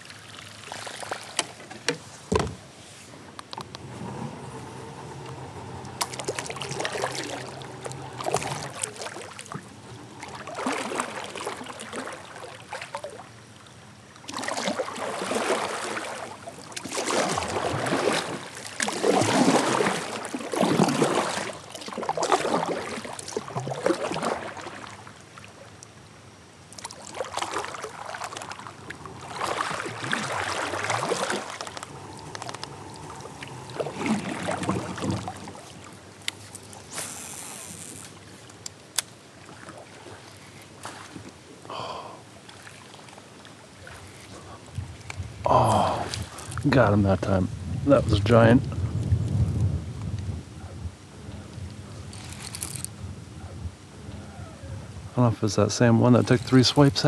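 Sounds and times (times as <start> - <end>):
paddle strokes splashing water: 0.0 - 47.0.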